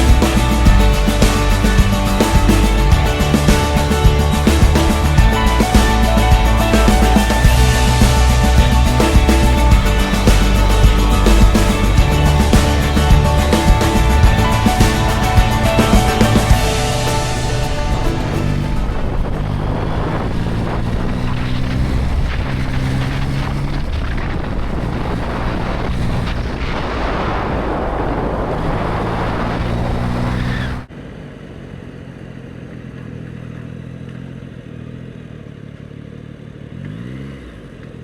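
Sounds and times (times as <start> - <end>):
wind rush: 0.0 - 30.9
motorcycle engine running: 0.0 - 38.0.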